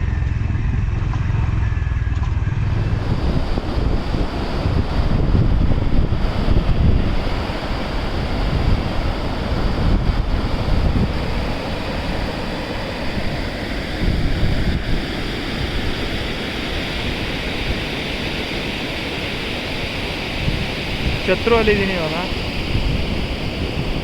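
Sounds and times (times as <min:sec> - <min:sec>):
wind buffeting microphone: 0:00.0 - 0:24.0
falling water rushing: 0:02.7 - 0:24.0.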